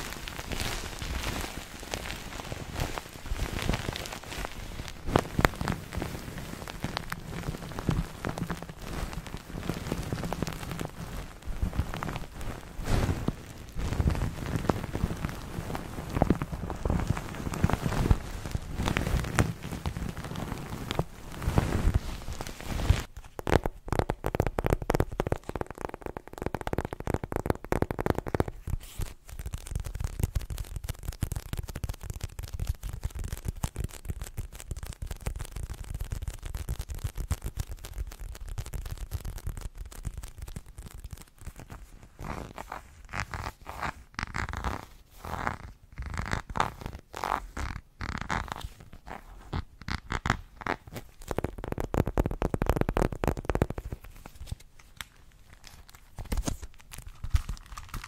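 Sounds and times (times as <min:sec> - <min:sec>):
crinkle pillow crinkling: 0:00.0 - 0:58.0.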